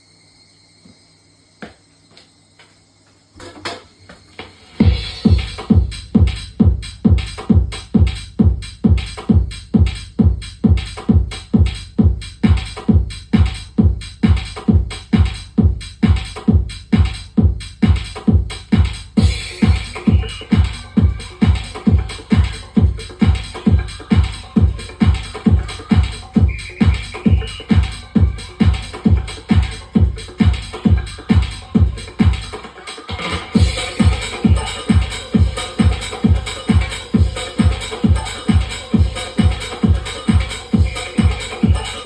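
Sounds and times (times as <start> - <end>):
electronic dance music: 4.4 - 42.0
steady kick drum: 4.4 - 42.0.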